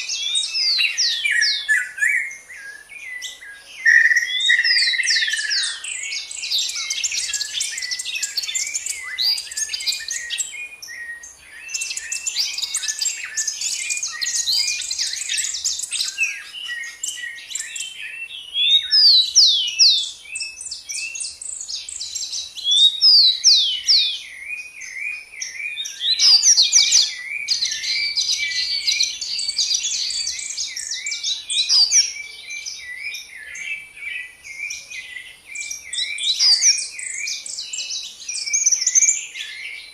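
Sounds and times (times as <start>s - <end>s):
downward-slurred bird whistles: 0.0s - 39.8s
songbirds twittering: 0.0s - 39.9s.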